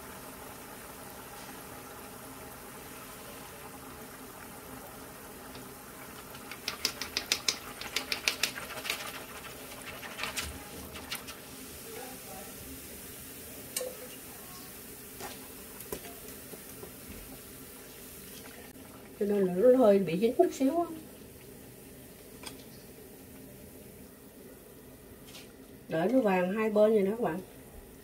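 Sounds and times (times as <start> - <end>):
batter sizzling in hot oil: 0.0 - 28.0.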